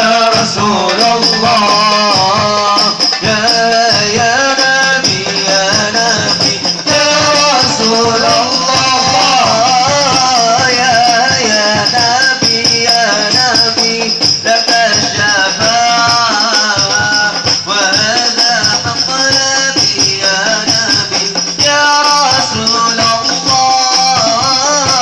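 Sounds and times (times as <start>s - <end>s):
frame drums rhythm: 0.0s - 25.0s
man singing devotional melody: 0.0s - 25.0s.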